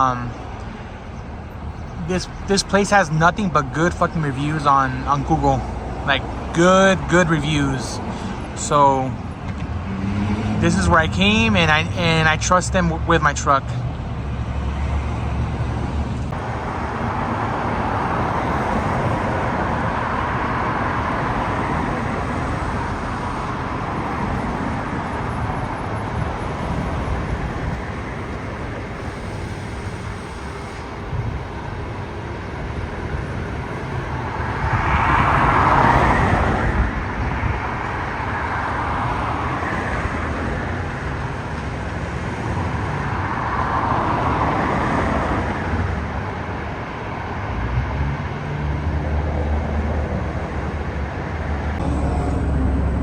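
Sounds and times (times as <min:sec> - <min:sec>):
road traffic noise: 0:00.0 - 0:53.0
vehicle passing loudly: 0:00.0 - 0:53.0.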